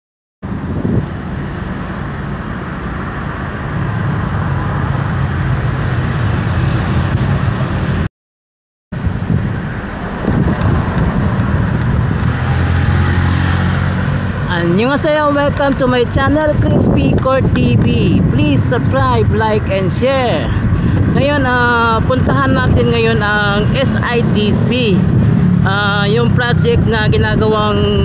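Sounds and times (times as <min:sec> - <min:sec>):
road noise: 0:00.4 - 0:08.1, 0:08.9 - 0:28.0.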